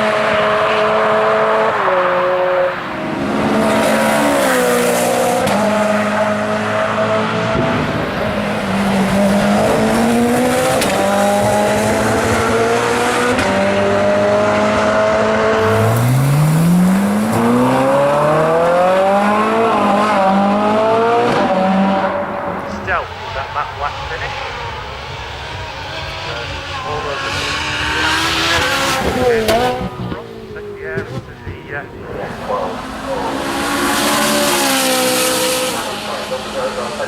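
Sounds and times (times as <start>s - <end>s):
car engine revving through gears: 0.0s - 37.0s.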